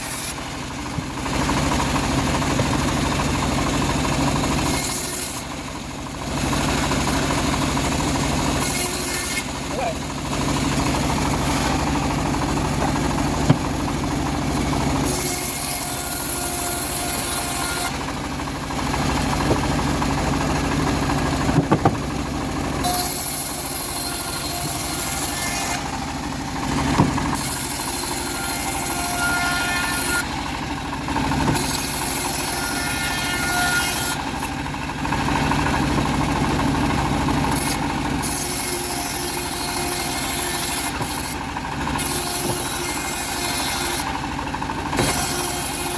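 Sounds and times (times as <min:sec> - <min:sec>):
bandsaw blade sawing log: 0:00.0 - 0:45.9
engine drone: 0:00.0 - 0:45.9.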